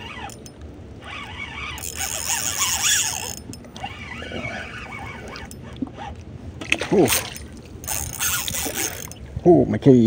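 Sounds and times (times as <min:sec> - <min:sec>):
fishing reel whirring: 0:00.0 - 0:06.1, 0:07.1 - 0:09.2.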